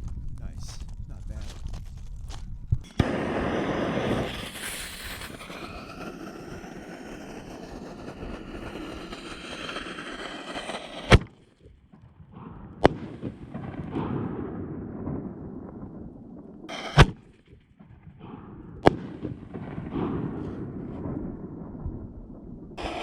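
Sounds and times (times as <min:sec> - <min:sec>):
fireworks rushing and crackling: 0:00.0 - 0:23.0
firework bangs: 0:02.8 - 0:23.0.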